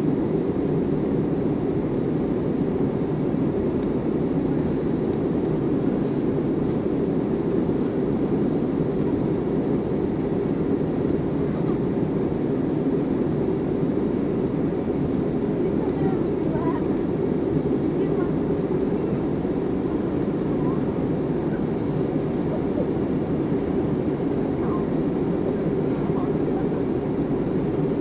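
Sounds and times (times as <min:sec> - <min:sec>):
jet cabin engine drone: 0:00.0 - 0:28.0.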